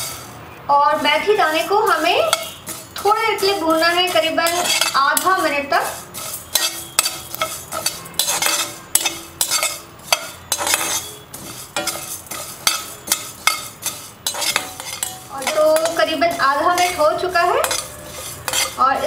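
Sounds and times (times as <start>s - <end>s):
spatula scraping seeds in pan: 0.0s - 0.4s, 1.0s - 19.0s.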